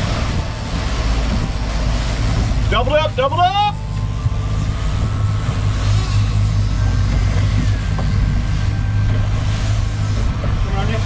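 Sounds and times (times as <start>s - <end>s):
outboard engines droning: 0.0s - 11.0s
wind and water rushing: 0.0s - 11.0s.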